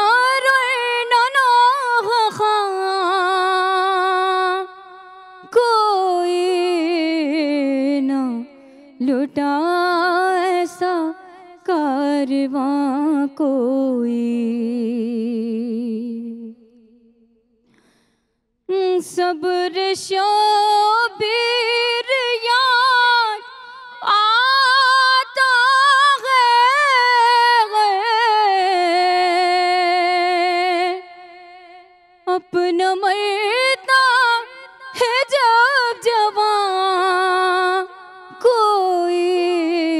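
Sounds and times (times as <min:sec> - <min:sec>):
woman singing unaccompanied: 0:00.0 - 0:04.8, 0:05.4 - 0:16.6, 0:18.7 - 0:31.2, 0:32.3 - 0:39.9.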